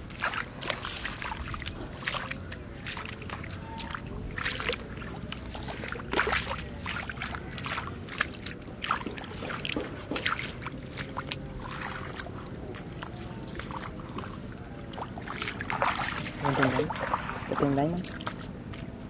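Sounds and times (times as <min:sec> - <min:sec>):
hands splashing in muddy water: 0:00.0 - 0:19.0.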